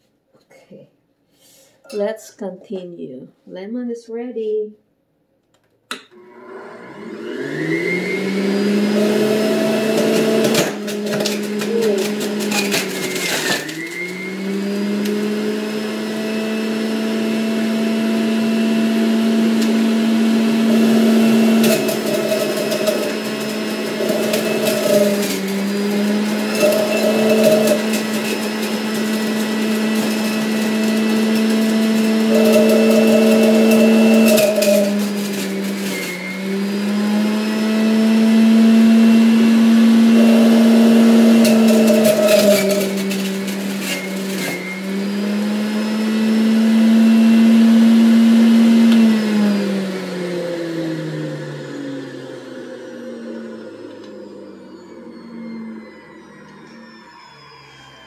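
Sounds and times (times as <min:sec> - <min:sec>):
juicer motor whine: 0:05.9 - 0:58.0.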